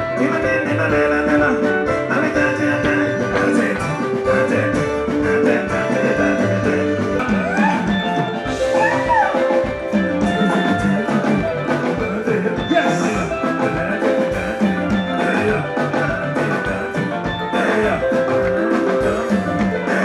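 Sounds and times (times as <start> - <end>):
drum kit beat: 0.0 - 20.0
electric guitar lines: 0.0 - 20.0.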